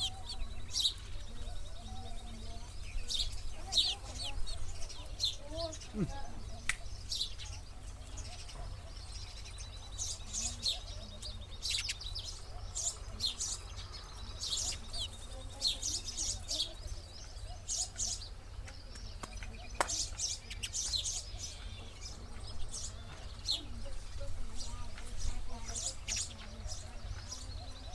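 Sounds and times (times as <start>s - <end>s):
sparrows chirping: 0.0s - 27.9s.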